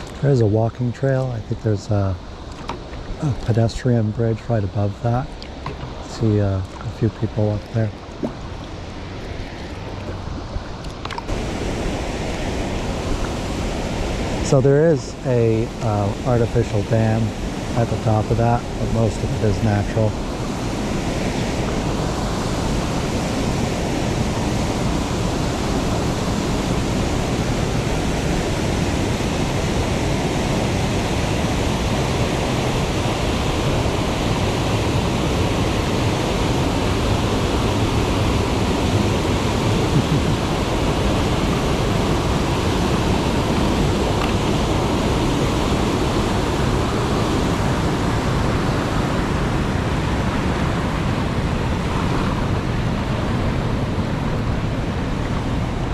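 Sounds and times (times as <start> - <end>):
water rushing over waterfall: 0.0 - 55.9.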